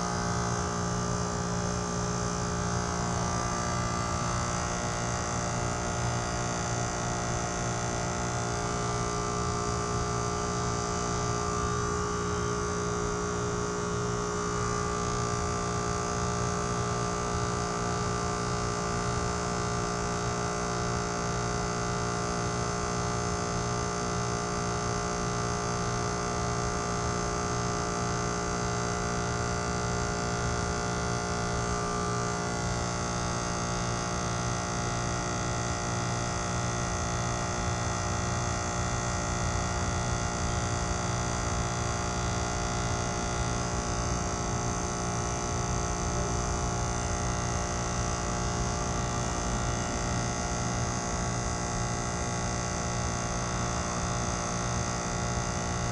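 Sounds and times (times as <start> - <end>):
heat pump compressor hum: 0.0 - 55.9.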